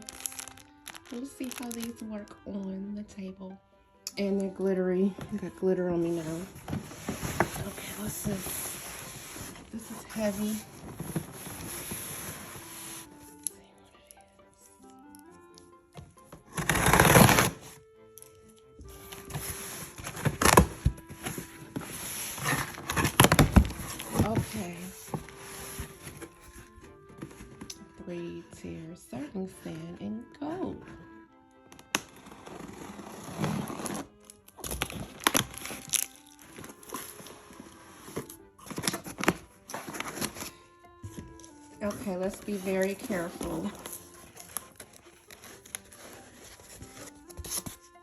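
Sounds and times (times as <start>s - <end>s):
cardboard packaging rustling: 0.0s - 2.1s, 5.0s - 13.4s, 16.0s - 27.9s, 31.8s - 48.0s
soft background music: 0.0s - 48.0s.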